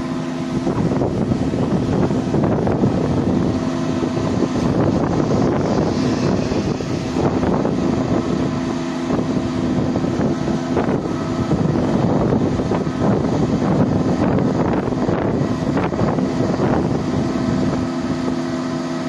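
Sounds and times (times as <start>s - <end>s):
auger unloading grain: 0.0s - 19.0s
combine harvester engine running: 0.0s - 19.0s
wind noise on microphone: 0.0s - 19.0s.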